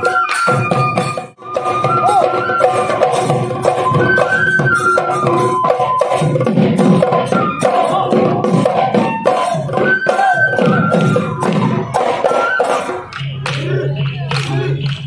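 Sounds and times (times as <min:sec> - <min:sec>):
drums beating steady rhythm: 0:00.0 - 0:15.0
wind instrument melody: 0:00.0 - 0:15.0.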